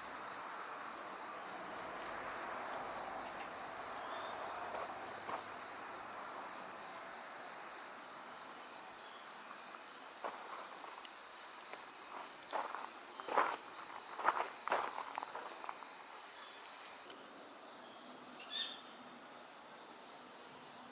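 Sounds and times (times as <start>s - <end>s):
insects chirring: 0.0s - 20.9s.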